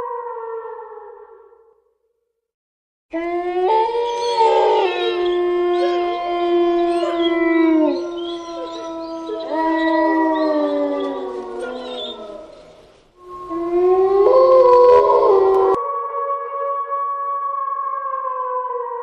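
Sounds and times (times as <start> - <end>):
eerie howling tones: 3.1 - 19.0.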